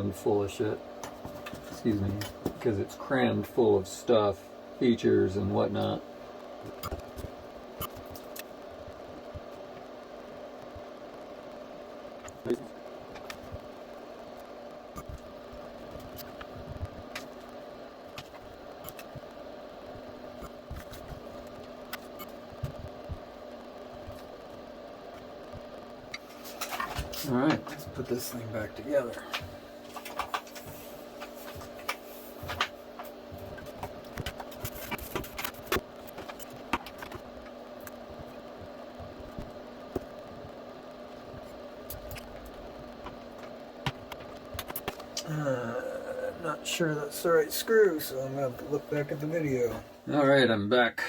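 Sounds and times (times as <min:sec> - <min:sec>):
steady background hum: 0:00.0 - 0:51.0.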